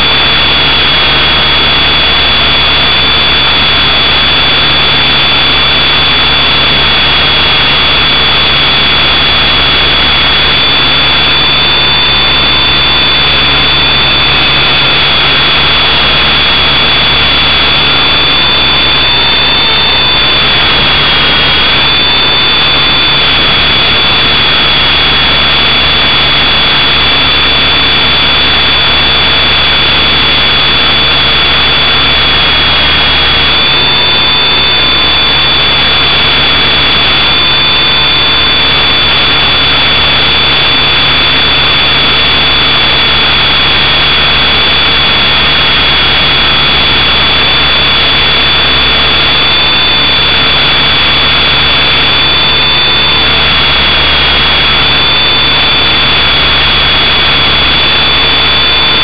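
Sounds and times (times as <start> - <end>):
high-pitched whines: 0.0 - 59.0
loud steady hiss: 0.0 - 59.0.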